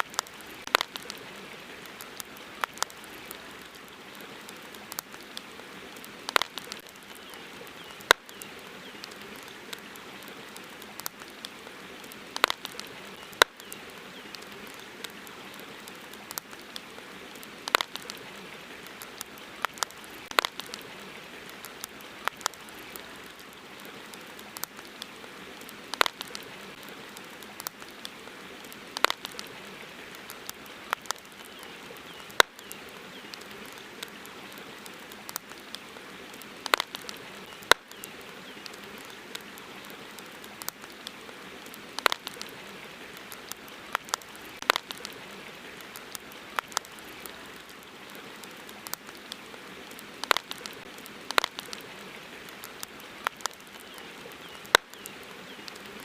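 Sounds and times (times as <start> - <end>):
wood campfire crackling: 0.0 - 56.0.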